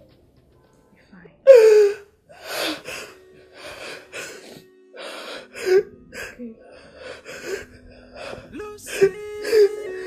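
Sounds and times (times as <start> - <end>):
soft background music: 0.0 - 10.0
woman sobbing: 1.5 - 10.0.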